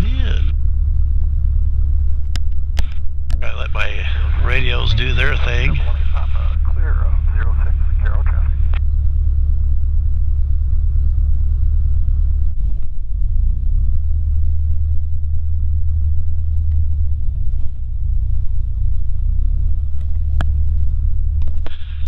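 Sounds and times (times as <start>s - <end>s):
aircraft engine droning: 0.0s - 22.0s.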